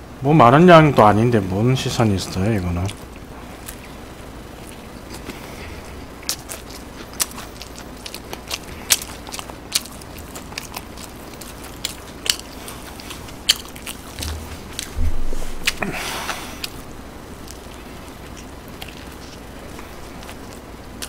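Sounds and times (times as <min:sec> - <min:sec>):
chewing and biting burger: 0:02.8 - 0:21.0.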